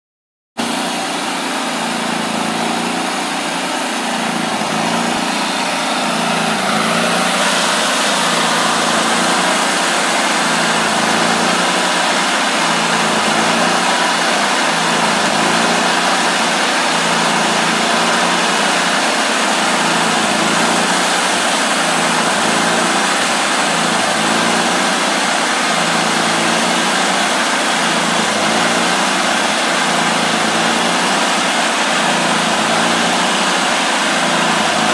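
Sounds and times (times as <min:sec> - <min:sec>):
band blade and wheels spinning: 0:00.6 - 0:34.9
bandsaw mill engine running: 0:00.6 - 0:34.9.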